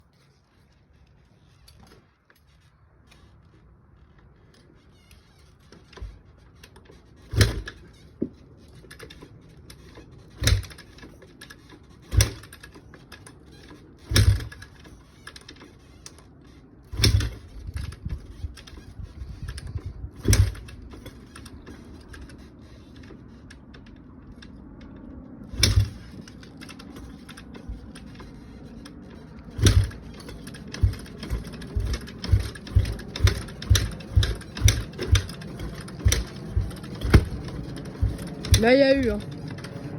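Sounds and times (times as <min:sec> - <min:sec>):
motorcycle kick-start clacks: 0:00.2 - 0:39.9
engine turning over: 0:04.4 - 0:39.9.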